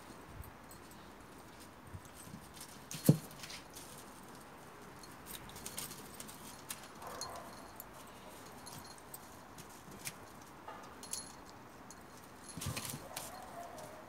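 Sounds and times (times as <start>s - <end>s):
kittens' paws scrabbling: 0.7s - 11.2s, 12.1s - 14.0s.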